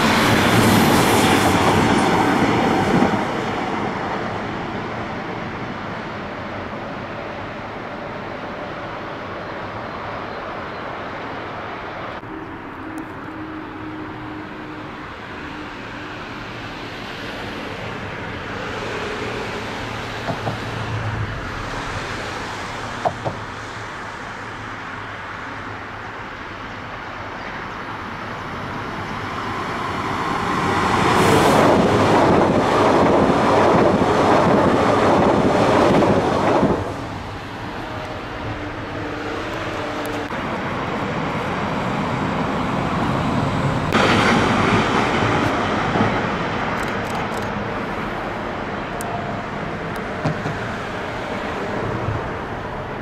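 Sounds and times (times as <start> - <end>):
train passing close by: 0.0 - 53.0.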